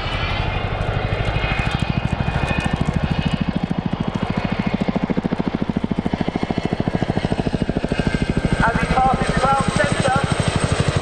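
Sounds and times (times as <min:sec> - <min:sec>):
turboprop aircraft engines throbbing: 0:00.0 - 0:11.0.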